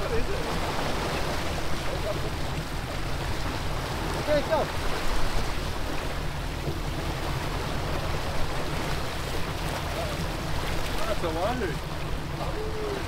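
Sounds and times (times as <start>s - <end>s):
boat engines running: 0.0s - 13.0s
water rushing from wake: 0.0s - 13.0s.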